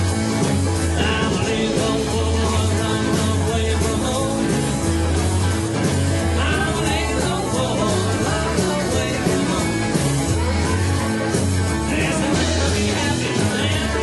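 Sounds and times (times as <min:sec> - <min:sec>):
bass notes: 0:00.0 - 0:14.0
drums with cymbal strokes: 0:00.0 - 0:14.0
person singing: 0:00.9 - 0:05.0, 0:06.2 - 0:14.0.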